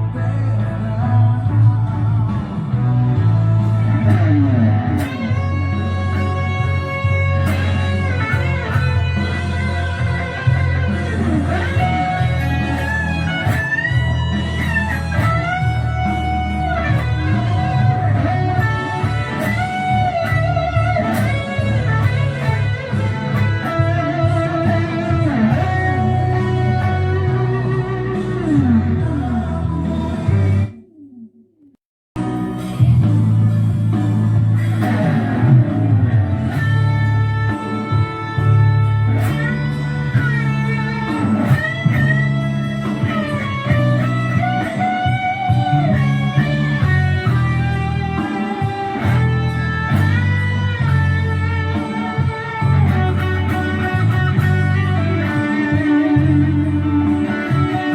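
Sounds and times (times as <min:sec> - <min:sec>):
bass guitar line: 0:00.0 - 0:31.2, 0:32.2 - 0:57.9
electric guitar solo: 0:00.0 - 0:31.3, 0:32.2 - 0:57.9.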